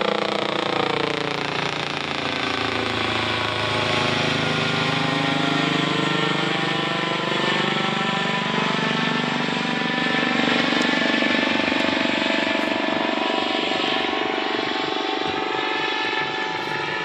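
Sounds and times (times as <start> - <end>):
helicopter engine tones: 0.0 - 17.0
helicopter rotor beating: 0.0 - 17.0.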